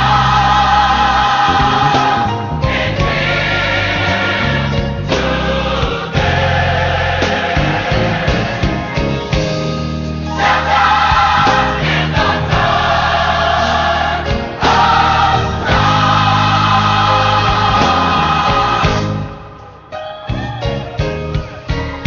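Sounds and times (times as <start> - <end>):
gospel choir singing: 0.0 - 20.0
band accompaniment: 0.0 - 22.0.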